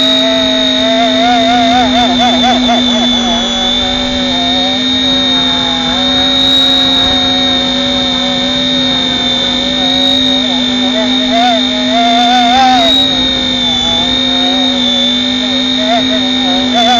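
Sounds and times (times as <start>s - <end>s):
rc helicopter motor whine: 0.0s - 16.9s
wavering mid-pitched tone: 0.0s - 16.9s.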